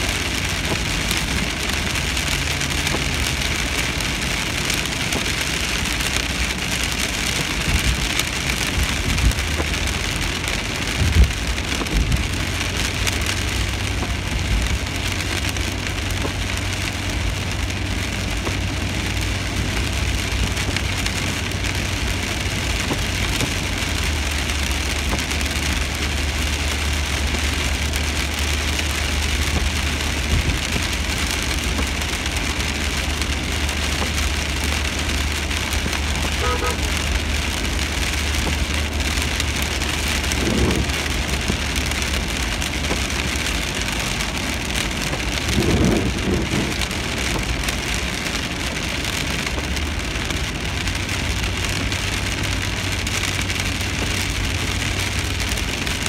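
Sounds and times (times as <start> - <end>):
car driving on wet road: 0.0 - 56.0
rain on car roof: 0.0 - 56.0.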